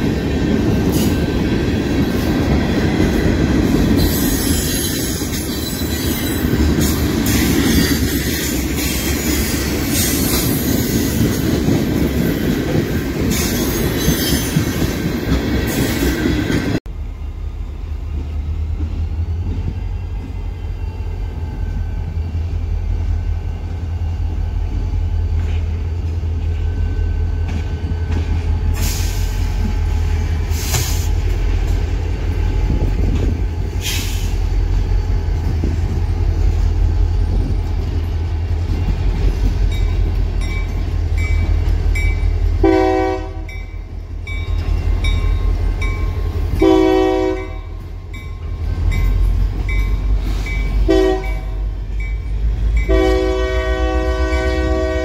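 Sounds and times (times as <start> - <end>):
diesel locomotive engine rumble: 0.0 - 55.0
freight train rail and wheel noise: 0.0 - 55.0.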